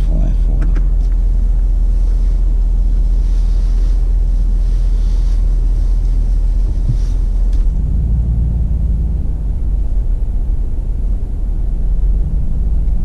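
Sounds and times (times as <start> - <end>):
engine and drivetrain rumble: 0.0 - 13.0
wind-like rushing: 1.2 - 13.0.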